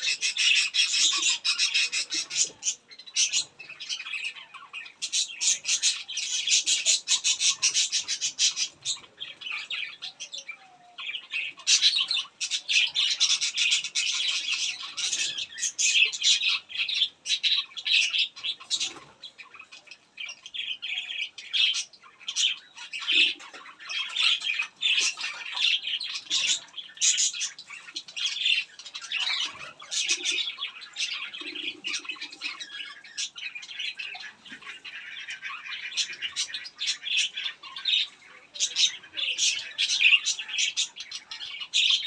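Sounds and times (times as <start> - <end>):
birds chirping and squawking: 0.0 - 42.0
low raspy bird calls: 0.0 - 42.0.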